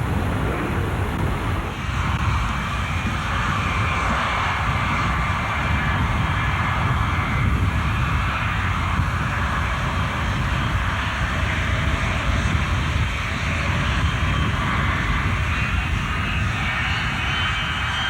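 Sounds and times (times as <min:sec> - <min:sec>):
jet engines running with high whine: 0:00.0 - 0:18.0.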